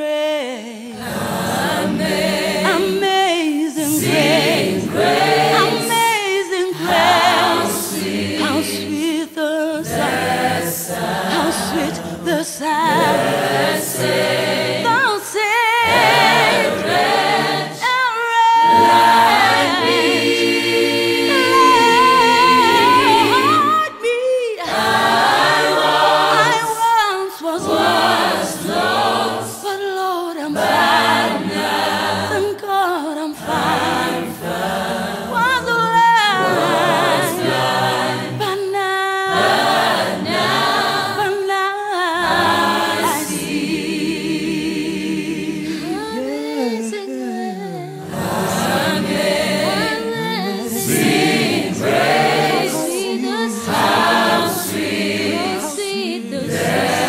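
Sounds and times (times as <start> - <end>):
a cappella group singing: 0.0 - 57.0.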